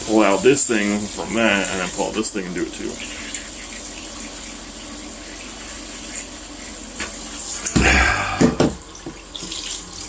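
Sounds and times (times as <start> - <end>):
tap water running: 0.0 - 10.0.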